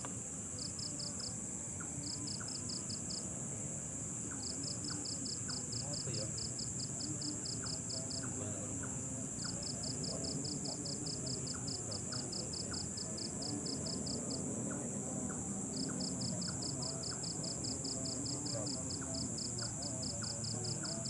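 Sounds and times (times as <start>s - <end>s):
cricket chirping: 0.0s - 21.0s
high-pitched insect drone: 0.3s - 21.0s.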